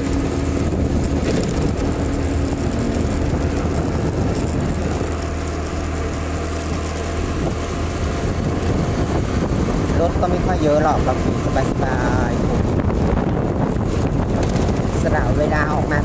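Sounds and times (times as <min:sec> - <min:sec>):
motorcycle engine cruising: 0:00.0 - 0:16.0
wind on microphone: 0:00.0 - 0:16.0.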